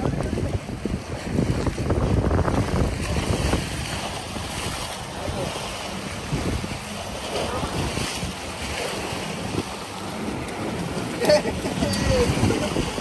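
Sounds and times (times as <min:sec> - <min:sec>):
sea waves washing against rocks: 0:00.0 - 0:13.0
wind buffeting microphone: 0:00.0 - 0:13.0.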